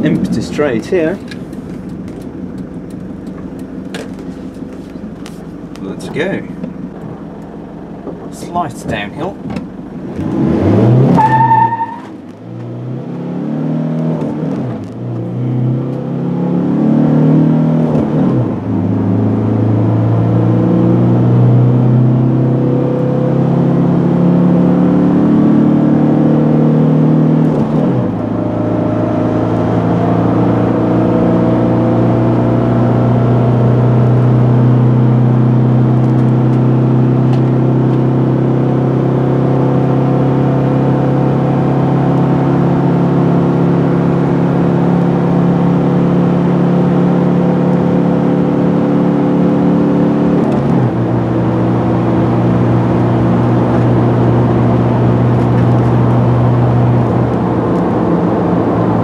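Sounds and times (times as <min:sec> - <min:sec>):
diesel engine accelerating: 0:00.0 - 0:59.0.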